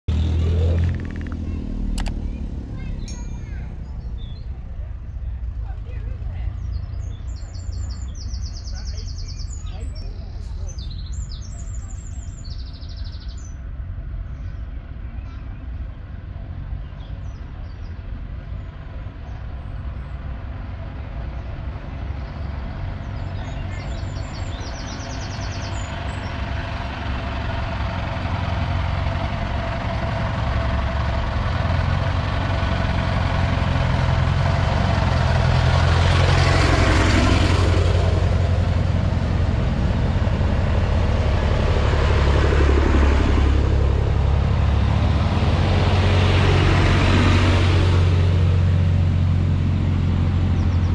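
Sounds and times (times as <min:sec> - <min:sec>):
tractor engine approaching: 0:00.0 - 0:50.9.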